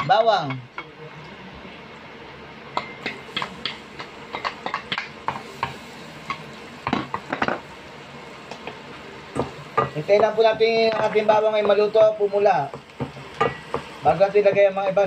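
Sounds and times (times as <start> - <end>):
garlic sizzling in butter: 1.8 - 15.0.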